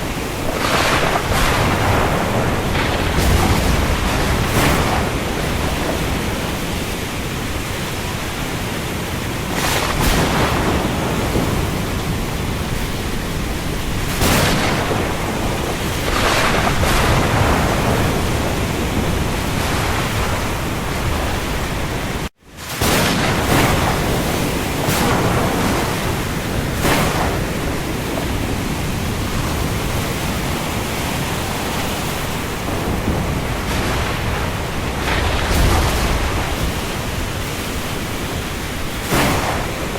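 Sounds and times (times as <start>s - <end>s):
rain falling on the sea: 0.0s - 39.9s
waves surging: 0.0s - 39.9s.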